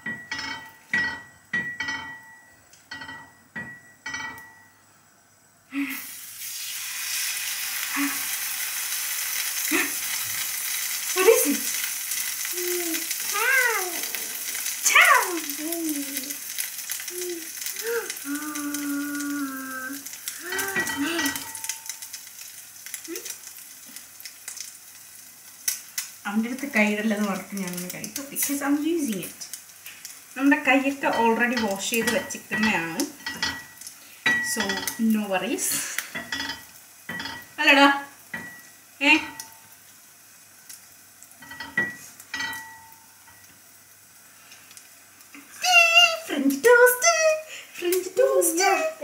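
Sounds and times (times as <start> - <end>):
bread sizzling in a frying pan: 5.2 - 49.0.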